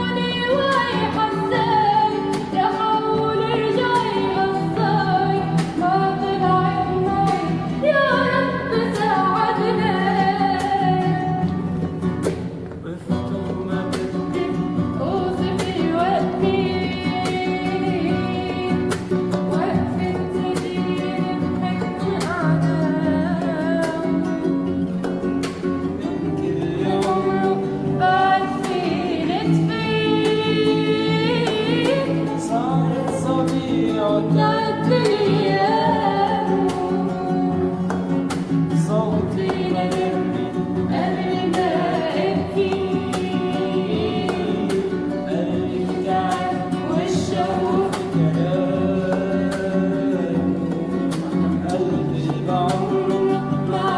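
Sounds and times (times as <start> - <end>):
plucked guitar: 0.0 - 53.9.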